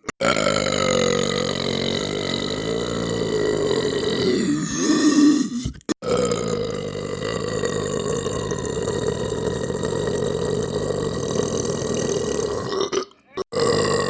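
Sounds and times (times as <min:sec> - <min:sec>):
long belch: 0:00.0 - 0:04.8, 0:05.4 - 0:14.0.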